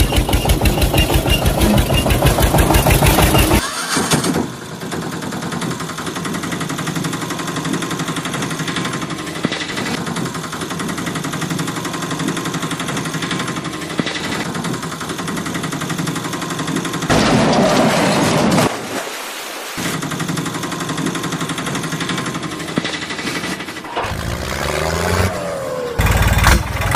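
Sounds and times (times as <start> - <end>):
small engine rattling: 0.0 - 18.0, 19.9 - 26.9.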